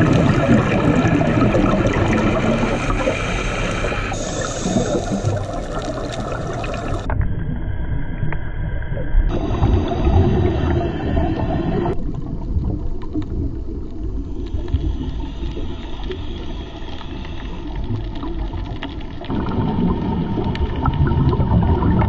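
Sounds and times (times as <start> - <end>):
faint crackles: 0.0 - 7.3, 11.2 - 22.0
underwater rumble and hiss: 0.0 - 22.0.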